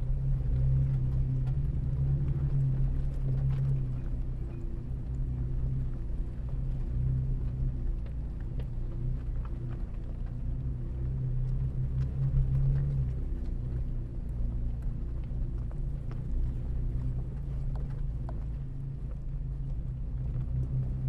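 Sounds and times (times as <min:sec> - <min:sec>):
off-road vehicle engine droning: 0:00.0 - 0:21.0.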